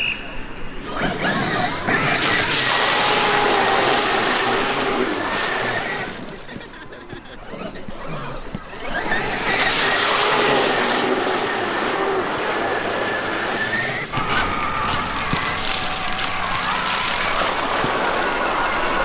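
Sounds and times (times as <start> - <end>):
toy truck electric motor whine: 0.8 - 19.0
rush of wheel noise: 0.9 - 6.9, 8.6 - 19.0.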